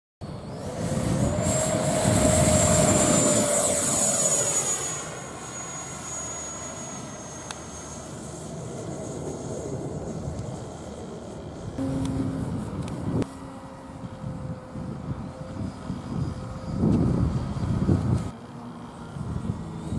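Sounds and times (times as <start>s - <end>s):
model jet engine whining: 0.2s - 19.9s.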